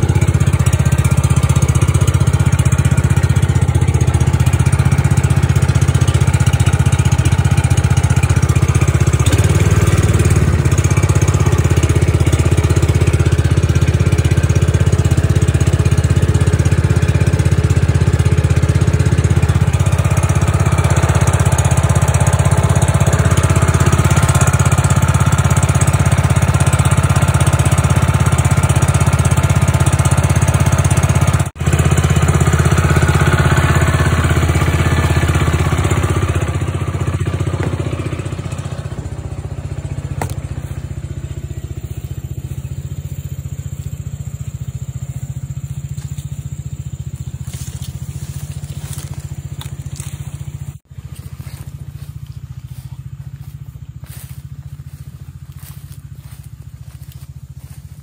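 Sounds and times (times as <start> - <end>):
small petrol engine running: 0.0 - 58.0.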